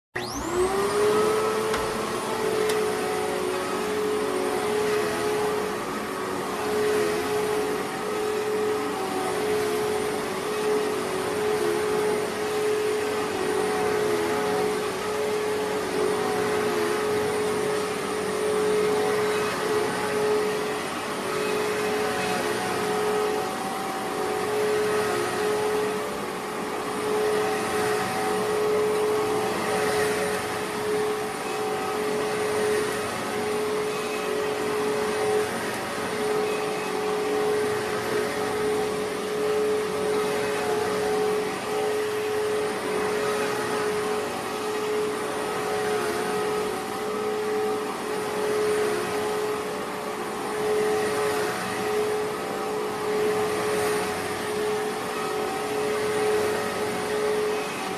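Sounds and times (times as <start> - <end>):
appliance motor whining: 0.2 - 49.5.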